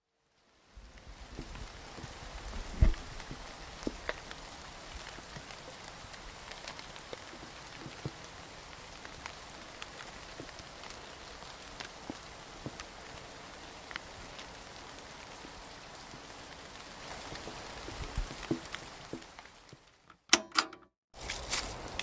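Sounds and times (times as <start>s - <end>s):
steady rain hiss: 0.0s - 20.1s
raindrops ticking: 0.9s - 20.3s.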